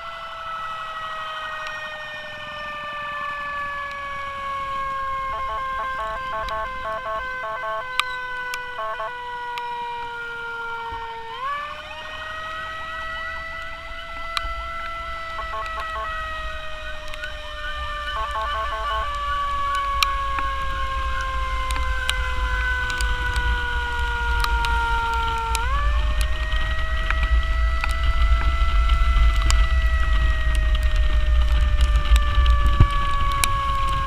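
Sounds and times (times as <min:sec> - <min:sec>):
ambulance siren wailing: 0:00.0 - 0:34.0
low road rumble: 0:00.0 - 0:34.0
rapid chopped siren tone: 0:00.0 - 0:34.0.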